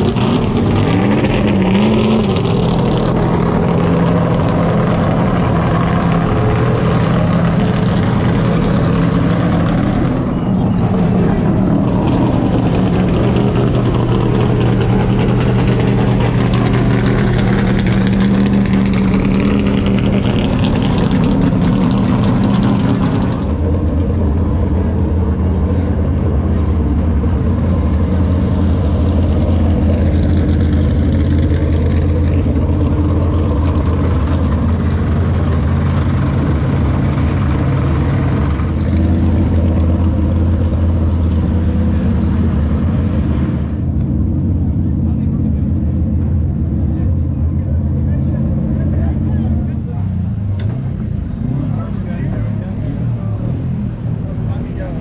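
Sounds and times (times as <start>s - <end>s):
car engine deep note: 0.0s - 55.0s
car engines running at low revs: 0.0s - 55.0s.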